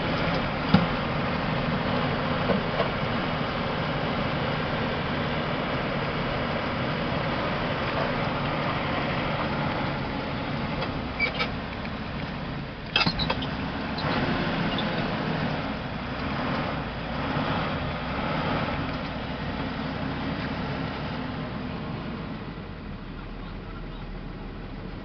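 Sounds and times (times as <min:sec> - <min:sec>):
rumbling road noise: 0:00.0 - 0:25.0
truck engine running: 0:00.0 - 0:25.0.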